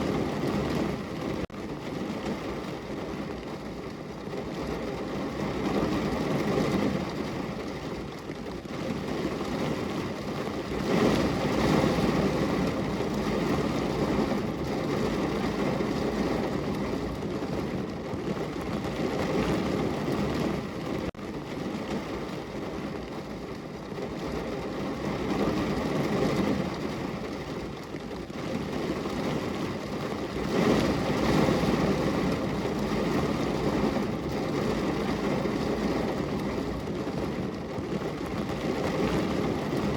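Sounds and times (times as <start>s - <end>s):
heavy rain hiss and patter: 0.0s - 39.9s.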